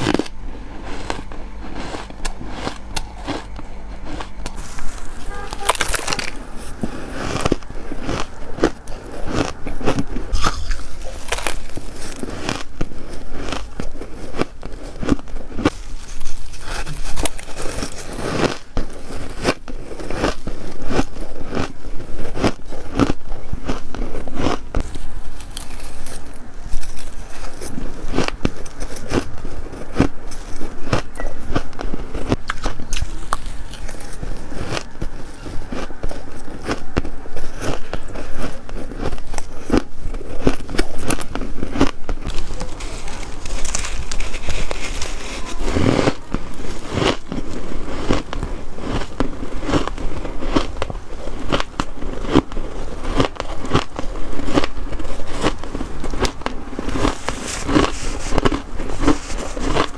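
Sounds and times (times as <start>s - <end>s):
biting crunchy frost: 0.0s - 59.9s.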